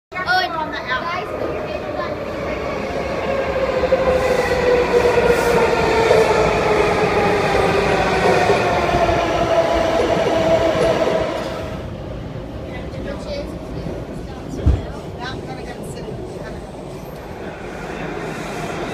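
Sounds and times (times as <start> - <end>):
metro train running: 0.1 - 18.9.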